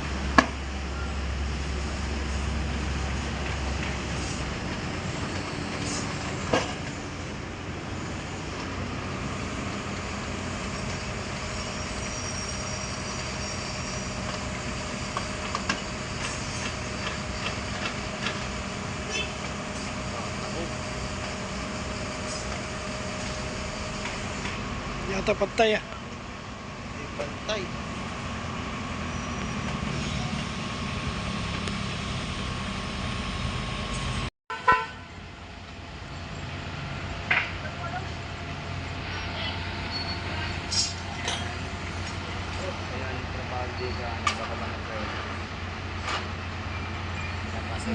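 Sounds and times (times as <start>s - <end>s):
heavy machinery engine running: 0.0s - 34.3s, 35.1s - 47.9s.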